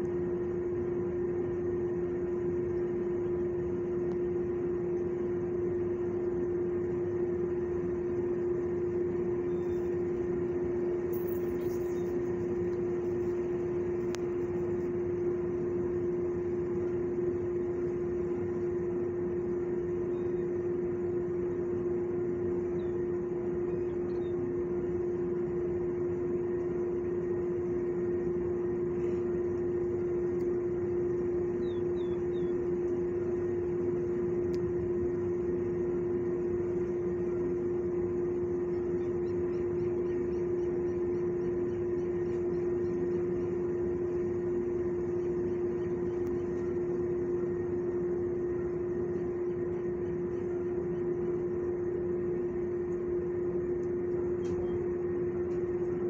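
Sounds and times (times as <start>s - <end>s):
ventilation equipment humming: 0.0s - 56.0s.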